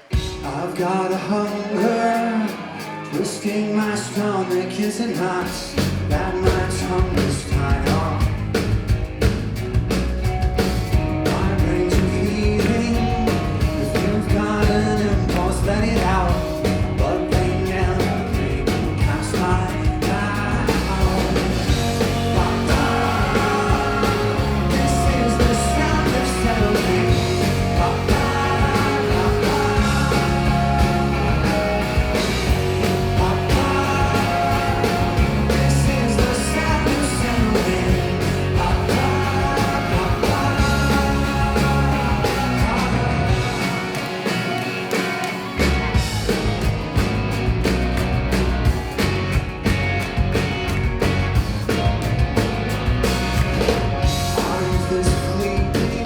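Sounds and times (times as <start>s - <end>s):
indie rock band playing: 0.0s - 56.0s.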